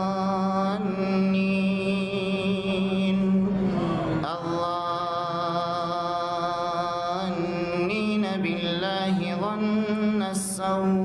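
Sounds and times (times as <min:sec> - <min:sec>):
person reciting melodically: 0:00.0 - 0:11.0.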